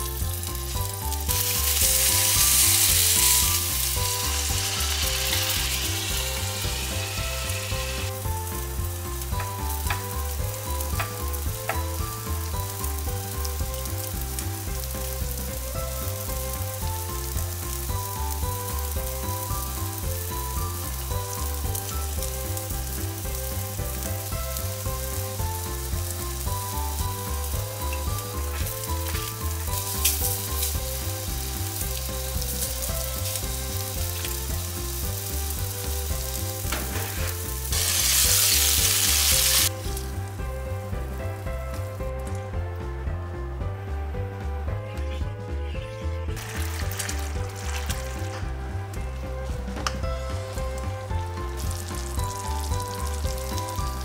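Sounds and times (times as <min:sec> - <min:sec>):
patties sizzling in a frying pan: 0:00.0 - 0:42.5, 0:46.3 - 0:54.0
light music with steady beat: 0:00.0 - 0:54.0.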